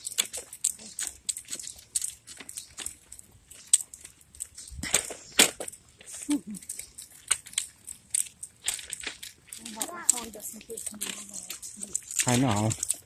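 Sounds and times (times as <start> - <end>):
camera rustling: 0.0 - 13.0.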